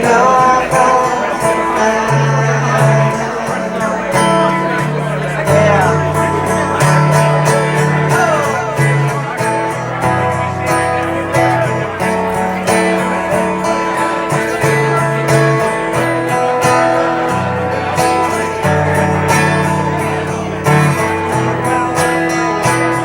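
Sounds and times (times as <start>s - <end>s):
strummed acoustic guitar music: 0.0s - 23.0s.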